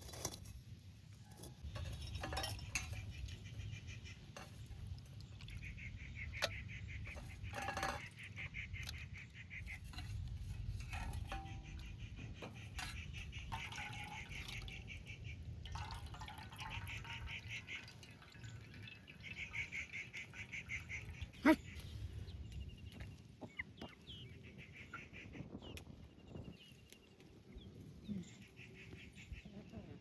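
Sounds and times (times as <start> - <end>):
birds chattering: 1.6 - 30.0.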